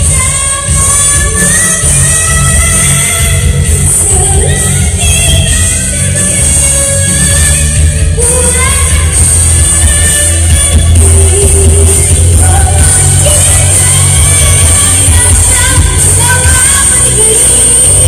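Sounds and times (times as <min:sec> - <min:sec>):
backing music with heavy bass: 0:00.0 - 0:18.0
boy singing into microphone: 0:00.0 - 0:18.0.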